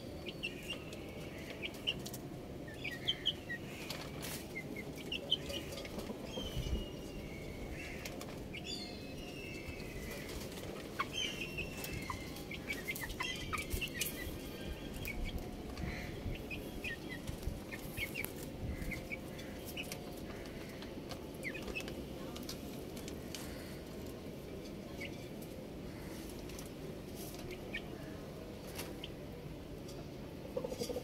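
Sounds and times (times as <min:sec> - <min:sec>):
chicks chirping and peeping: 0:00.2 - 0:20.8, 0:21.4 - 0:22.6, 0:25.0 - 0:29.2.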